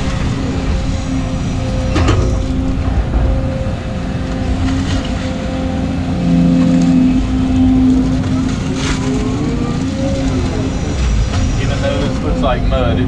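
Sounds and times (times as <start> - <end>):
excavator diesel engine: 0.0 - 13.0
hydraulic whines: 0.0 - 13.0.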